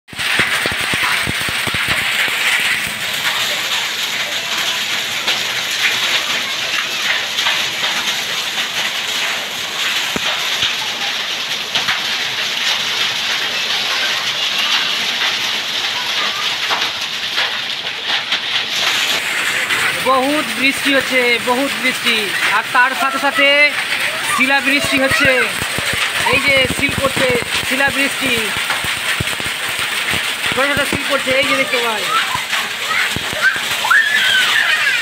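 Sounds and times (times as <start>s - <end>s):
hailstones ticking: 0.1s - 35.0s
heavy rain on concrete: 0.1s - 35.0s.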